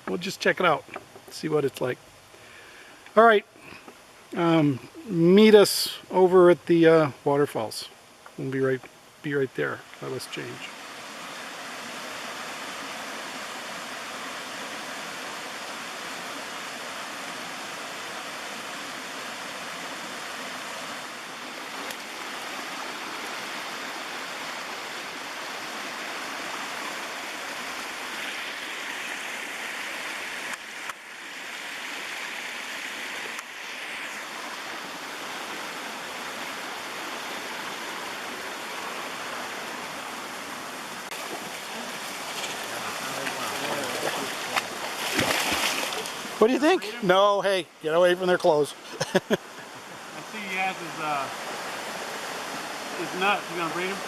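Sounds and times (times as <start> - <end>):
stream rushing over waterfalls: 0.0 - 54.0.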